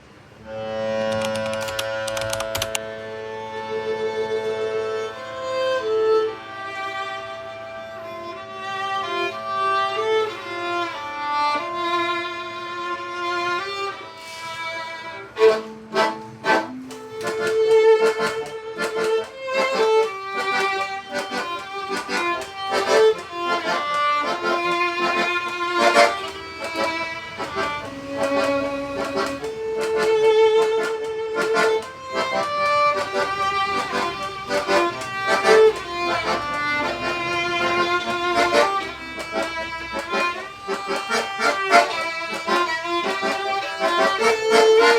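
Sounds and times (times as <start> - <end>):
violin melody: 0.0 - 44.9.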